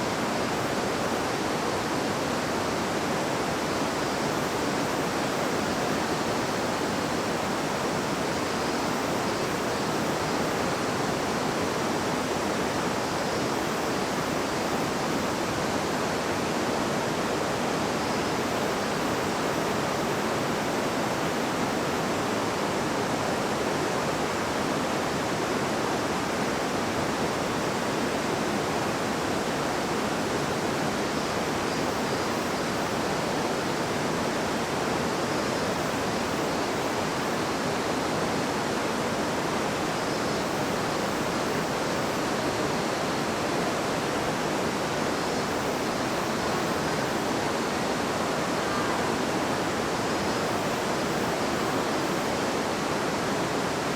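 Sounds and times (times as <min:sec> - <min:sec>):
river water rushing over stones: 0:00.0 - 0:53.9.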